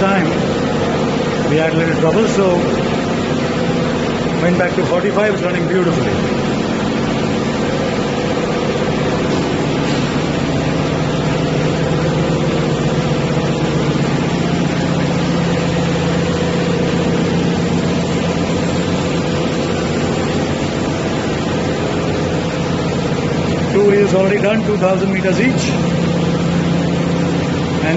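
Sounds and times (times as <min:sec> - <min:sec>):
machinery humming: 0:00.0 - 0:27.9.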